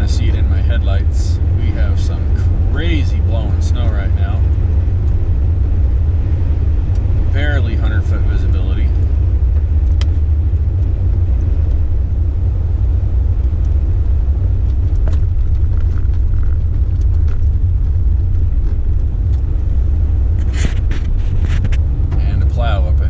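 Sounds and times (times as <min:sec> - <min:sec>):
vehicle cabin rumble: 0:00.0 - 0:23.0.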